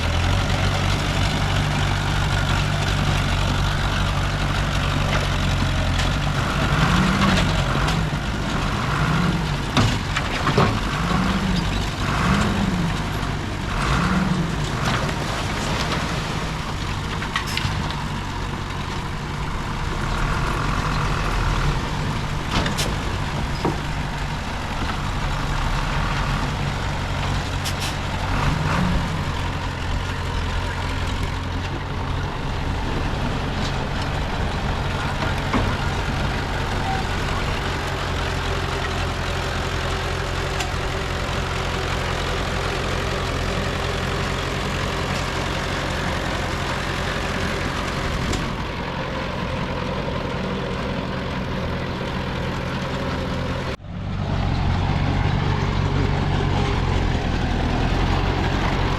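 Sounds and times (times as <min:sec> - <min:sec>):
heavy diesel engines running: 0:00.0 - 0:58.9.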